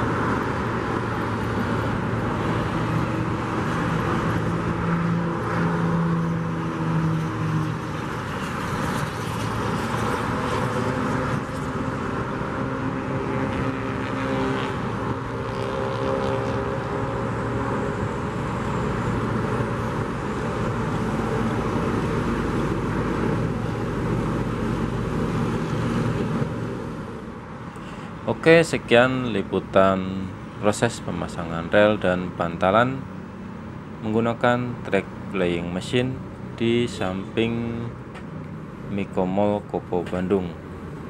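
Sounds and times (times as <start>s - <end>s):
motor engines running: 0.0s - 41.0s
steady outdoor rumble: 0.0s - 41.0s.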